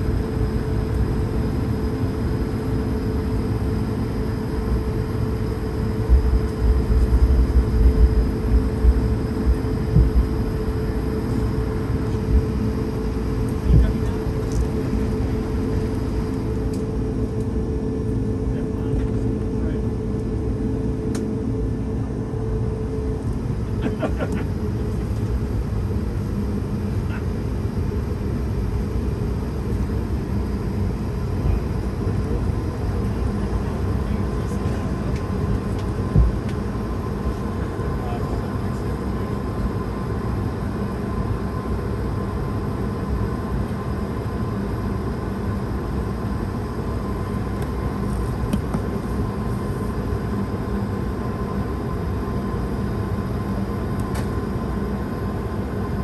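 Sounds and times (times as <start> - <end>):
faint steady whine: 0.0 - 56.0
jet engines idling rumble: 0.0 - 56.0.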